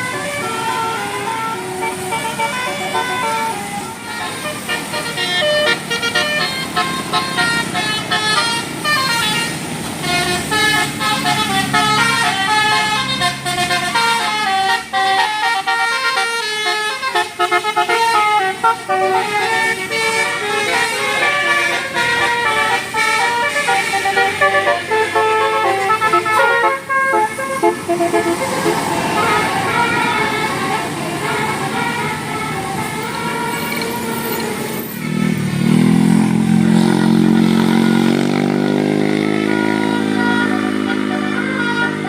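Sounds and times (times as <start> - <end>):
bus engine: 0.0 - 42.0
multi-tone bus horn melodies: 0.0 - 42.0.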